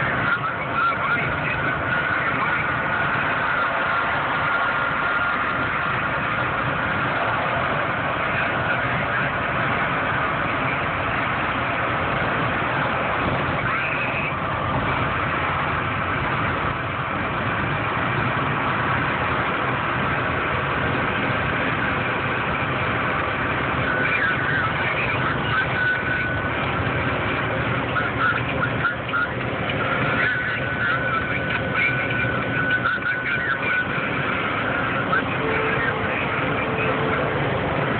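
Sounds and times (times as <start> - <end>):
truck engine and road noise: 0.0 - 37.9.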